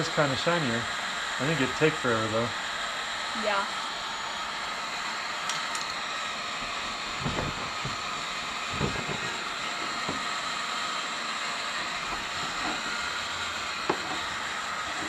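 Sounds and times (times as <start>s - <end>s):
heat gun blowing air: 0.0s - 15.0s.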